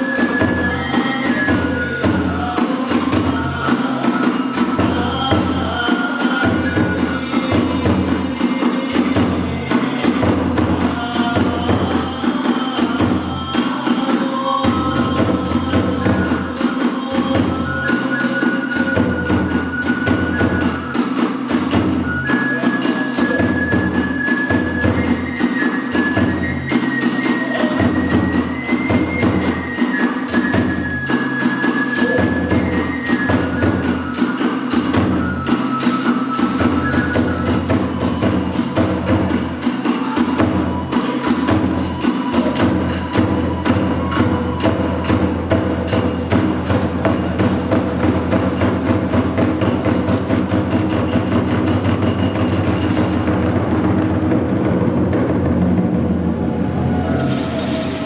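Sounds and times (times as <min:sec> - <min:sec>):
bamboo flute held notes: 0:00.0 - 0:53.6, 0:56.2 - 0:58.0
pounding drum: 0:00.0 - 0:58.0.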